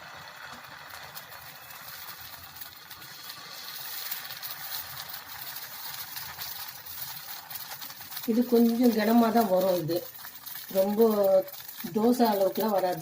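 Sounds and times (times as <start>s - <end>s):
batter sizzling on griddle: 0.0s - 13.0s.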